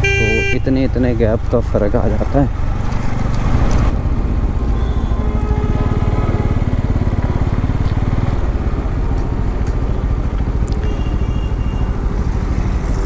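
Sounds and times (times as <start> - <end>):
motorcycle engine at low revs: 0.9 - 13.0.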